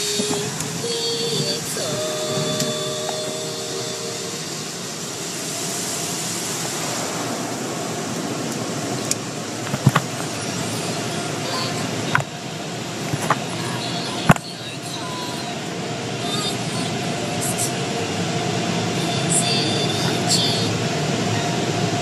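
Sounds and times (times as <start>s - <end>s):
car wash equipment rushing: 0.0s - 22.0s.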